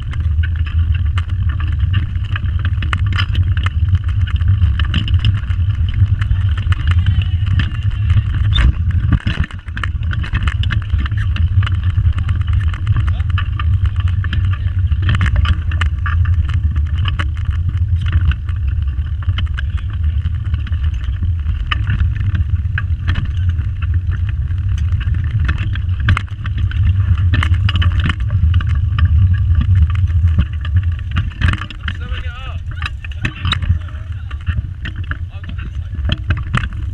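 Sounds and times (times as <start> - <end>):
chassis rattling and clicking: 0.0 - 36.9
go-kart wheels rumbling on tarmac: 0.0 - 36.9.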